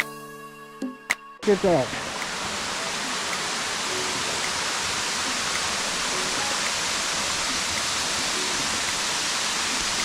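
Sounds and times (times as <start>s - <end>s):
waterfall roaring: 1.4s - 10.0s.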